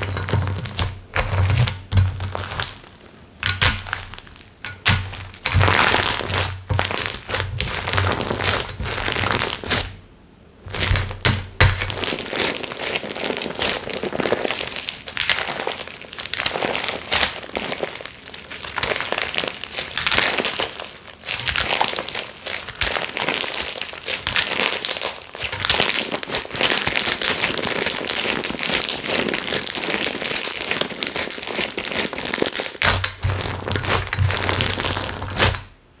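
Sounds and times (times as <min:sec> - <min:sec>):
slime crackling and popping: 0:00.0 - 0:10.0, 0:10.7 - 0:35.8.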